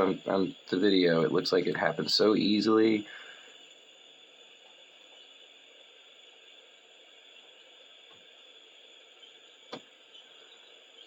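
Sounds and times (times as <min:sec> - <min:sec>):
soldering torch flame hiss: 0:00.0 - 0:11.0.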